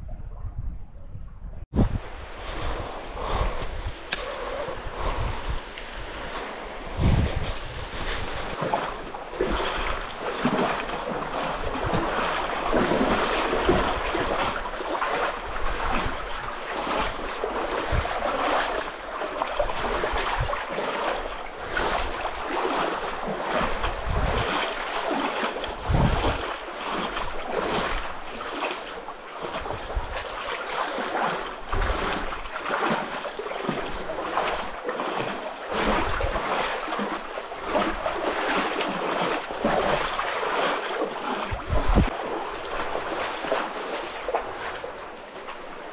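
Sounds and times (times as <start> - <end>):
wind rumbling on microphone: 0.0 - 28.5, 29.4 - 30.4, 31.3 - 32.6, 33.7 - 36.5, 41.2 - 45.9
water sloshing from wading: 1.7 - 45.9.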